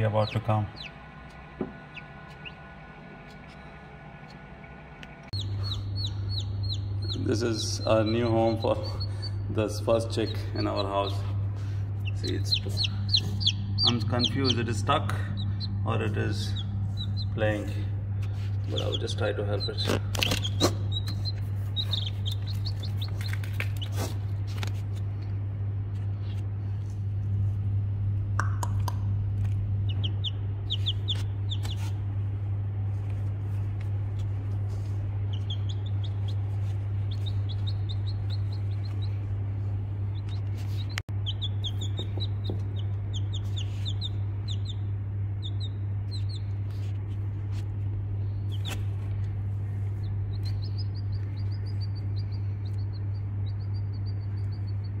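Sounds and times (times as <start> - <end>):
baby chick peeping: 0.0 - 2.7, 5.3 - 24.8, 28.6 - 32.1, 33.2 - 55.0
steady low hum: 0.0 - 55.0.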